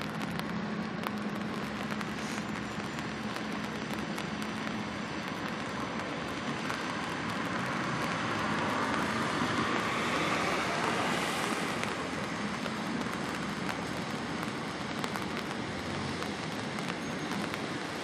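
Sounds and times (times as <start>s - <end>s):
water rushing along hull: 0.0s - 18.0s
wind: 0.0s - 18.0s.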